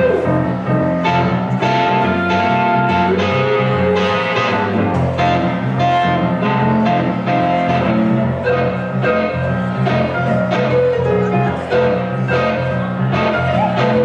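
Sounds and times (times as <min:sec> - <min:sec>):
electric guitar: 0:00.0 - 0:14.0
electric keyboard: 0:00.0 - 0:14.0.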